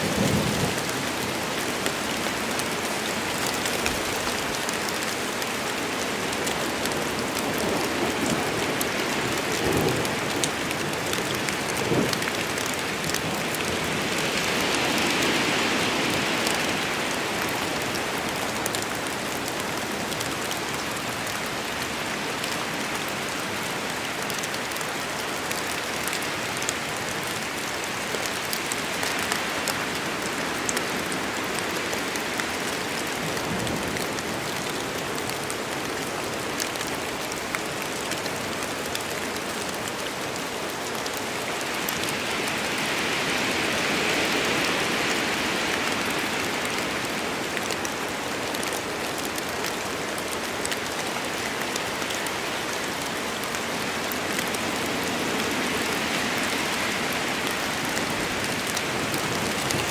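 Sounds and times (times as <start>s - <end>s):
close raindrops hitting: 0.0s - 59.9s
steady rain: 0.0s - 59.9s.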